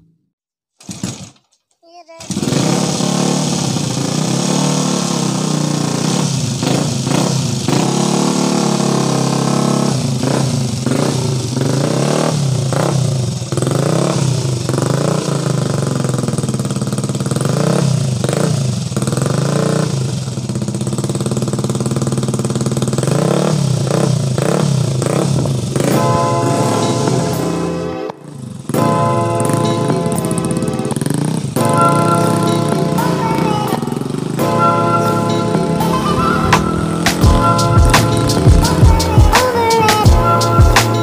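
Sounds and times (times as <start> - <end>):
motorcycle engine revving: 0.8 - 1.4, 2.2 - 41.0.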